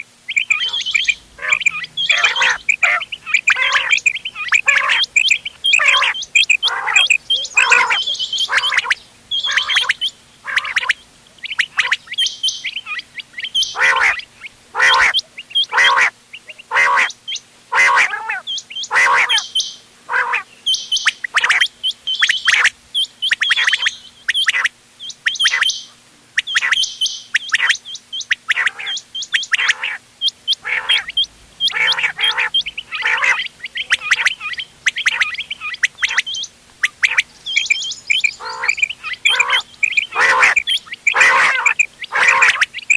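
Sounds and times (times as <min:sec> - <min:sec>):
faint low hum: 0:00.0 - 0:42.9
quail calling: 0:00.0 - 0:42.9.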